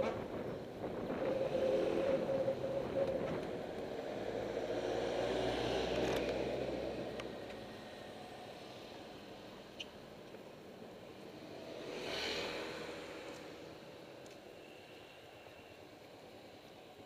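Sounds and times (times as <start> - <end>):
tyre and road noise: 0.0 - 17.0.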